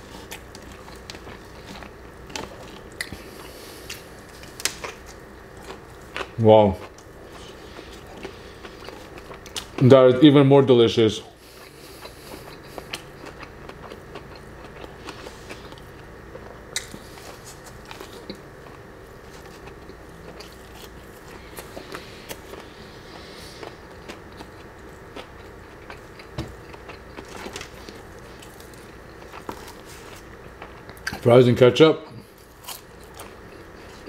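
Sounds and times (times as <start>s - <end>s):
chewing crispy food: 0.0s - 9.9s, 11.4s - 31.3s, 32.2s - 34.0s.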